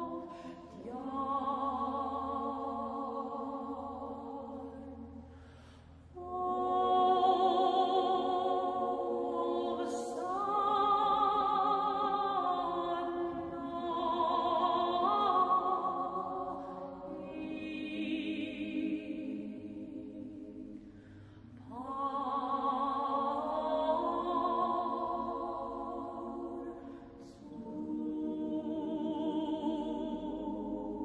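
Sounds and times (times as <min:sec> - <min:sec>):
person singing a hymn unaccompanied: 0:00.0 - 0:05.2, 0:06.2 - 0:20.9, 0:21.5 - 0:31.0.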